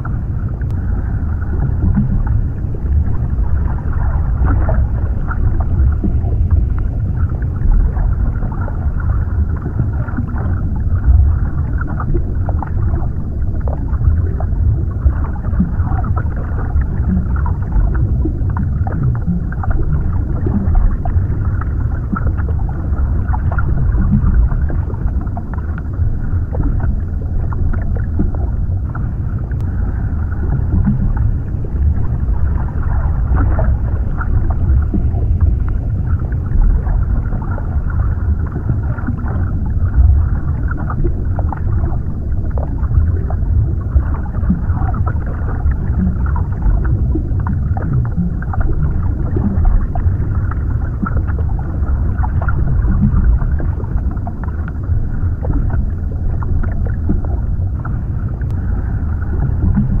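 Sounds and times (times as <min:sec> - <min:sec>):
muffled underwater rumble: 0:00.0 - 1:00.0.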